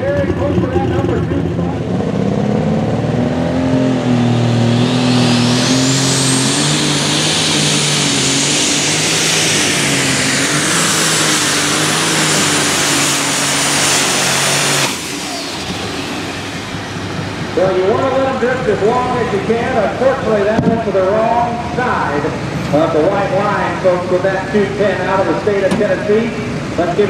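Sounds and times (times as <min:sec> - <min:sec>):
diesel tractor engine at full power: 0:00.0 - 0:27.0
high turbo whine: 0:00.0 - 0:27.0.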